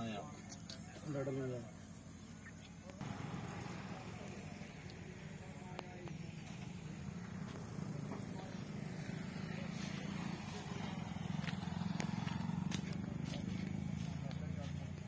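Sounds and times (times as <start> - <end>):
engine humming: 0.7 - 15.0.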